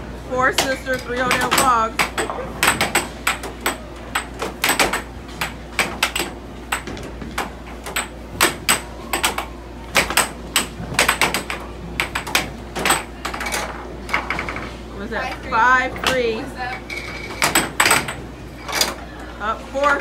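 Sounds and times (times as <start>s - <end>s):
air hockey puck clacking: 0.4s - 16.3s, 17.1s - 19.0s.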